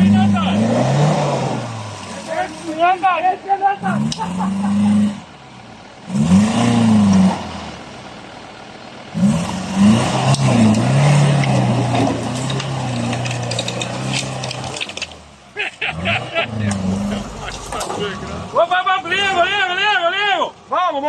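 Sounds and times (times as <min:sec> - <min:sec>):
car engine revving: 0:00.0 - 0:20.1.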